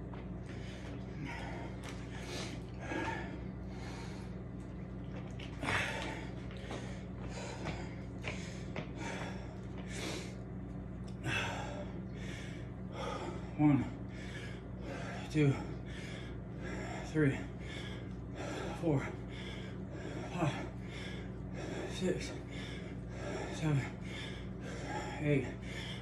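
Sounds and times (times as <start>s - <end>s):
low hum: 0.0s - 26.0s
man breathing heavily: 0.0s - 26.0s.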